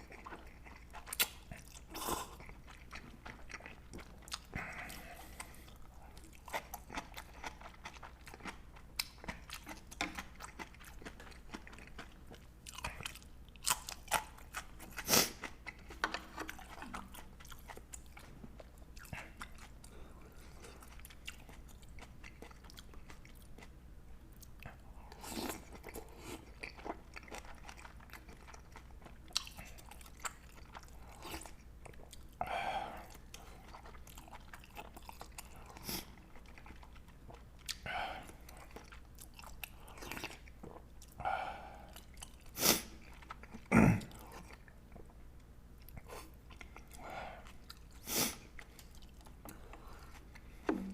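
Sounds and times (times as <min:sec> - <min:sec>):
person chewing and crunching food: 0:00.0 - 0:50.9.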